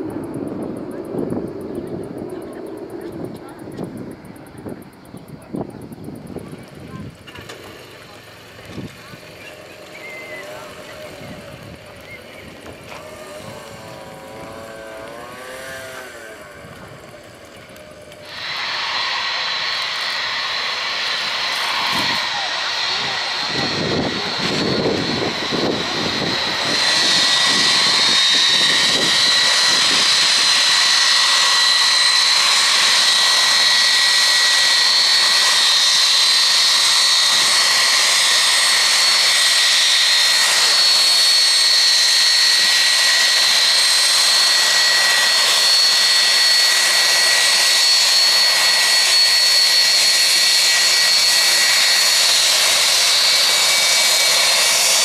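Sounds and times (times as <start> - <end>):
jet engines with high whine: 0.0 - 55.0.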